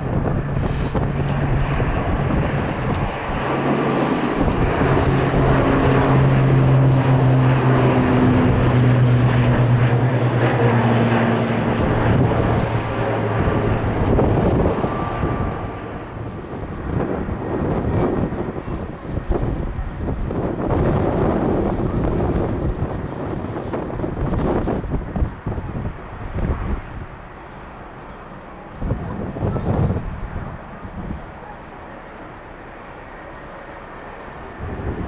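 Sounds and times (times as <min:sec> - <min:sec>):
wind buffeting microphone: 0:00.0 - 0:31.7, 0:33.4 - 0:35.0
turboprop propeller drone: 0:00.0 - 0:35.0.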